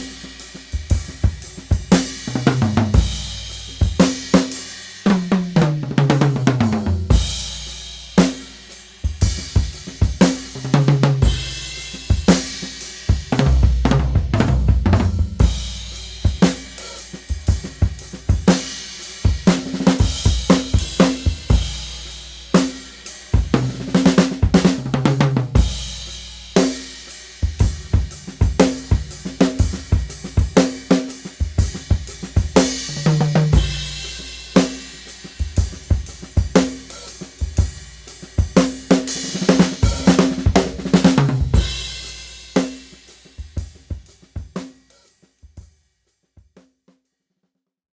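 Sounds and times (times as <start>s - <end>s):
drum kit groove: 0.0s - 45.8s.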